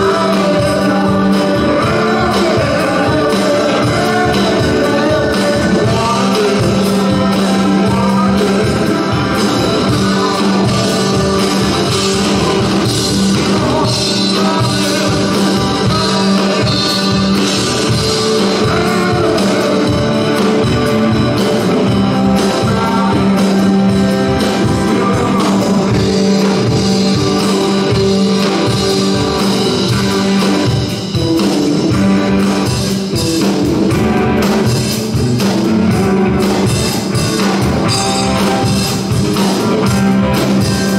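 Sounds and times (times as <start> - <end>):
lead vocal singing: 0.0 - 35.2
rock band playing: 0.0 - 40.9.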